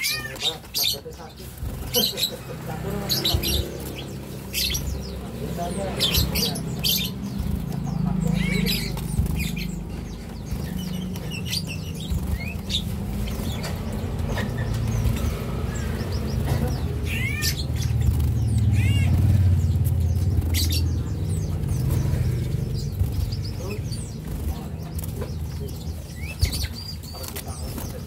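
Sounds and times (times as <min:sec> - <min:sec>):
birds chirping: 0:00.0 - 0:28.0
clear arched bird calls: 0:00.0 - 0:28.0
wing flutters: 0:00.0 - 0:28.0
steady low rumble: 0:01.6 - 0:26.7.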